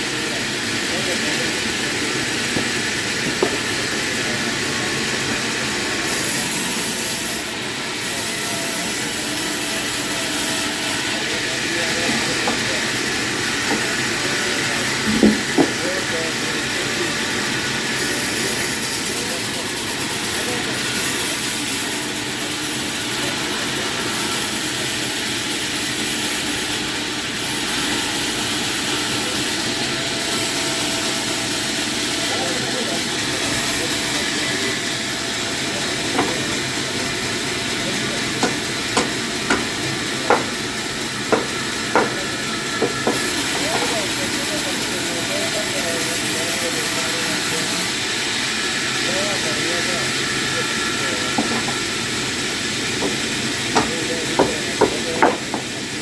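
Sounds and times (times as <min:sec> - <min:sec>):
machine hissing: 0:00.0 - 0:56.0
saw cutting through wood: 0:00.0 - 0:56.0.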